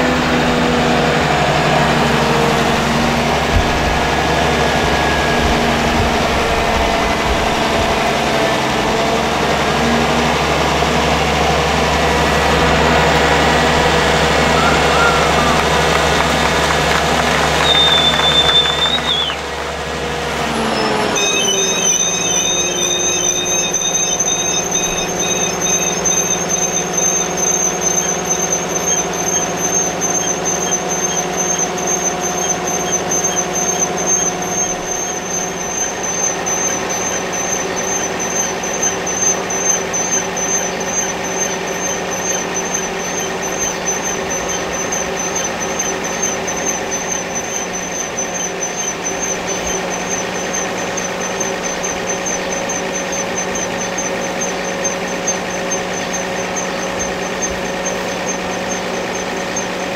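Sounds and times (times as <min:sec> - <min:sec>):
machinery engine rumble: 0:00.0 - 0:59.9
high-pitched whine: 0:11.2 - 0:59.3.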